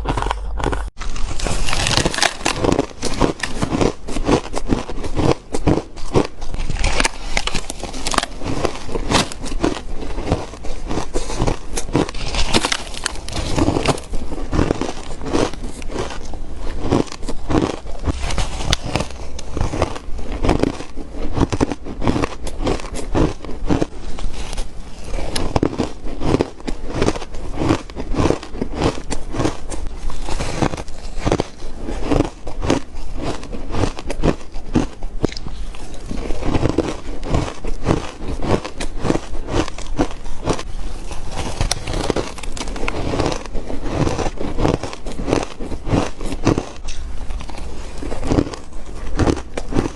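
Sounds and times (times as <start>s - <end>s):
crushed ice crunching between teeth: 0.0s - 49.9s.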